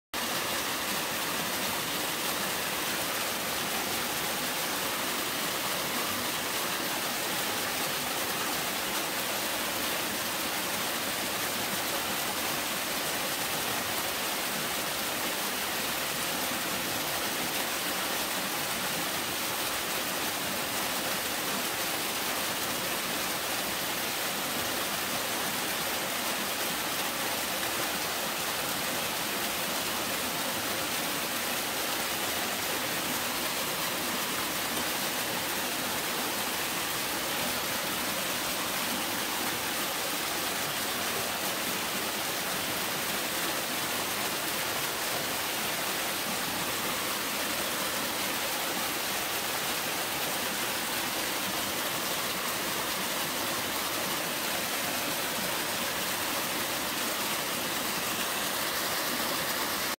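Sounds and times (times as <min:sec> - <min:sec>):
waterfall rushing: 0:00.1 - 1:00.0.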